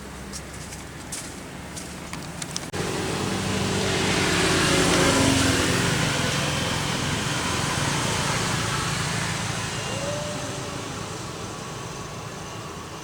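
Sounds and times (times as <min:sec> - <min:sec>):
engine-like hum: 0:00.0 - 0:13.0.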